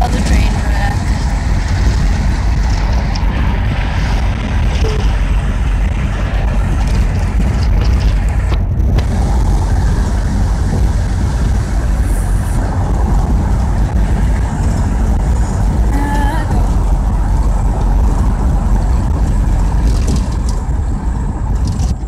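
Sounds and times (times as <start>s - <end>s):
car road noise rumble: 0.0s - 22.0s
wind through open window: 0.0s - 22.0s.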